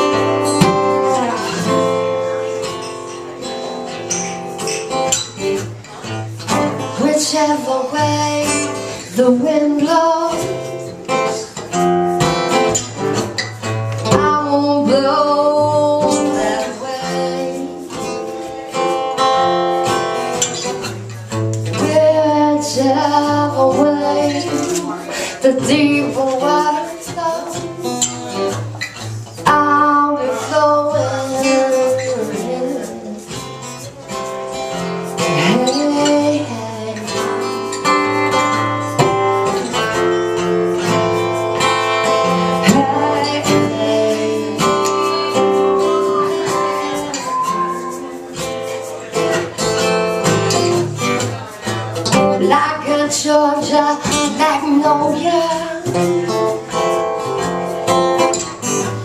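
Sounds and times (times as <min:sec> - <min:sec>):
person singing: 0:00.0 - 0:02.8, 0:06.5 - 0:12.7, 0:14.0 - 0:19.4, 0:21.6 - 0:28.7, 0:29.4 - 0:58.2
acoustic guitars strumming: 0:00.0 - 0:59.0.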